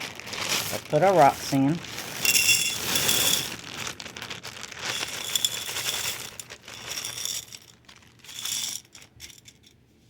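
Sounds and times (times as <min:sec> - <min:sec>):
plastic bag crinkling: 0:00.0 - 0:09.7
pebbles clattering into a dish: 0:00.5 - 0:09.8.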